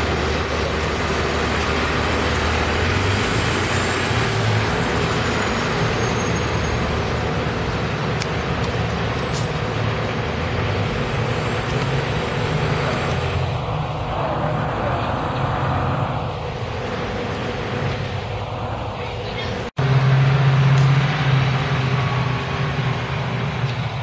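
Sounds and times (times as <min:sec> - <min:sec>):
bus engine droning: 0:00.0 - 0:24.0.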